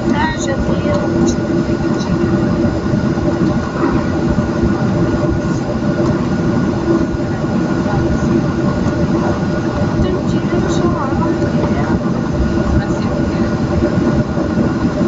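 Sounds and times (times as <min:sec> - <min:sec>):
jet engines humming: 0:00.0 - 0:15.0
wheels rumbling over pavement: 0:00.0 - 0:15.0.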